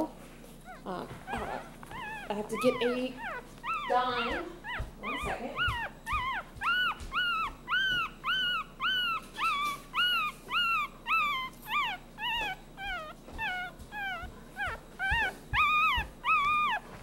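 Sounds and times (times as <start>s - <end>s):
puppies crying with high squeals: 0.6s - 17.0s.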